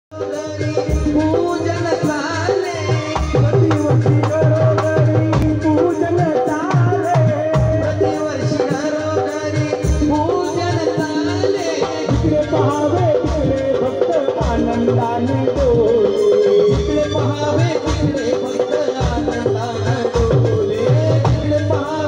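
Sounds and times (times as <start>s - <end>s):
barrel drum beat: 0.1s - 22.0s
electronic keyboard melody: 0.1s - 22.0s.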